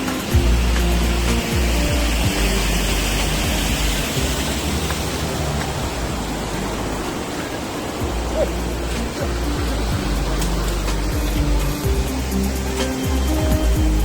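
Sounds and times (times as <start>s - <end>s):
steady rushing rumble: 0.0s - 14.0s.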